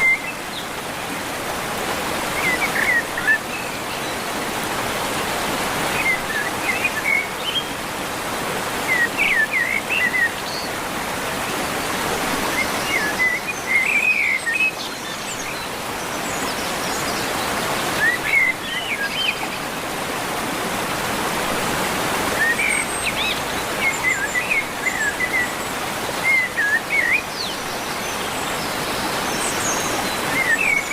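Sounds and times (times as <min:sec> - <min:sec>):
rushing waterfall: 0:00.0 - 0:30.9.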